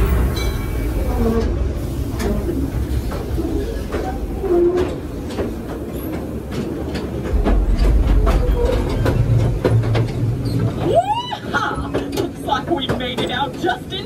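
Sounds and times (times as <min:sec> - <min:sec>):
ride cars rumbling on track: 0:00.0 - 0:14.0
wheels clacking on rails: 0:00.0 - 0:14.0.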